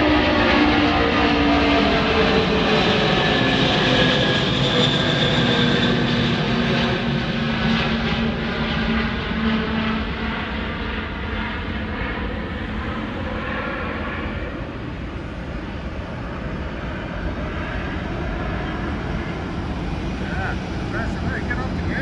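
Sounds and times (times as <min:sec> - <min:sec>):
aircraft engines rumbling: 0:00.0 - 0:22.0.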